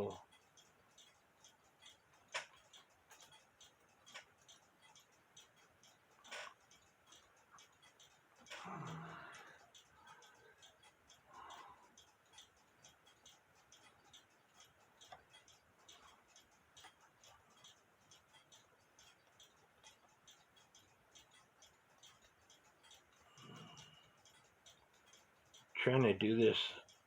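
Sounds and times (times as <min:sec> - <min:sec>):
mechanical clock ticking: 0:00.0 - 0:27.0.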